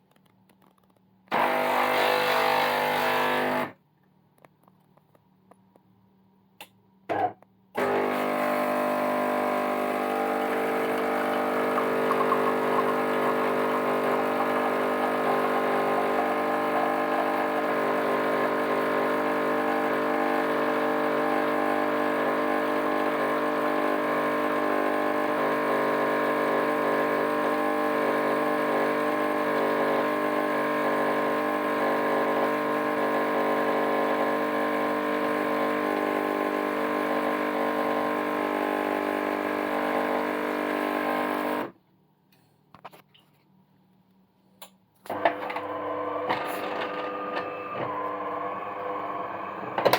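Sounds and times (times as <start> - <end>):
coffee machine pump buzzing: 1.3 - 3.8, 7.8 - 41.8, 45.1 - 49.9.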